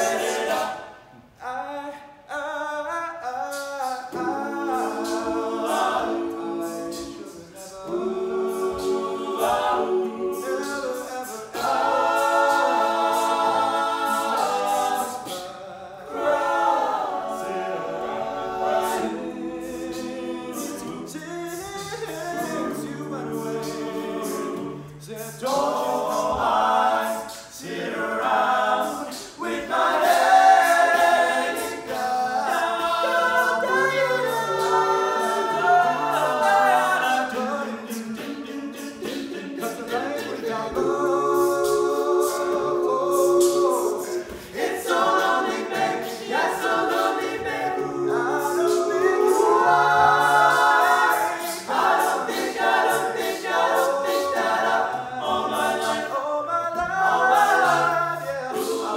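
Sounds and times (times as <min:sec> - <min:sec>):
male a cappella group singing: 0:00.0 - 0:58.9.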